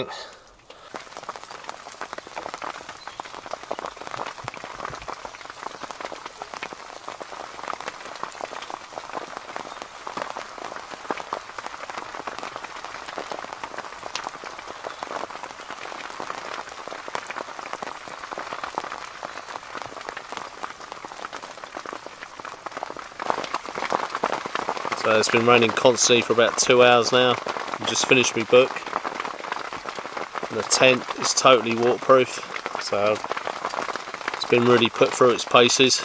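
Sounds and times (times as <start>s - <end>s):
rain on tent fabric: 0.0s - 36.0s.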